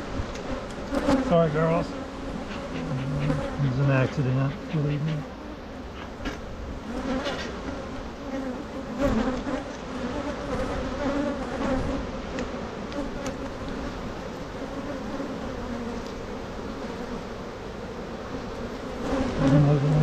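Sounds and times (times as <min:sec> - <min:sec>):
bees buzzing loudly: 0:00.0 - 0:20.0.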